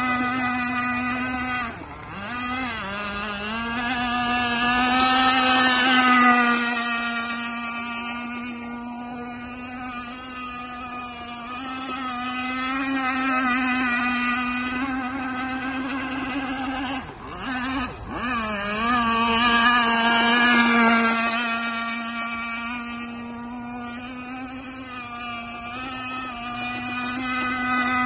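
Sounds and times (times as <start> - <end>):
model boat engine whining: 0.0 - 28.0.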